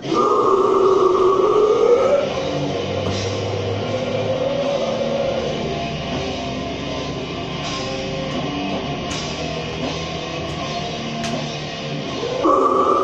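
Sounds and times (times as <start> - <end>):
distorted guitar: 0.0 - 13.0
drums: 0.0 - 13.0.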